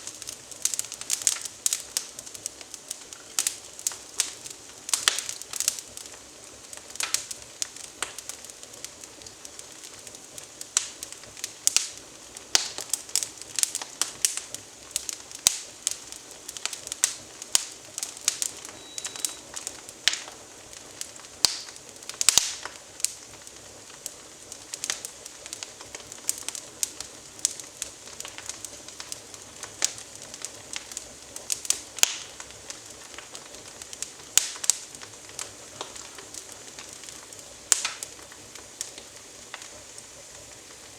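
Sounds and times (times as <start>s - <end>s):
faint fire hiss: 0.0s - 40.9s
wood fire crackling and popping: 0.0s - 40.9s.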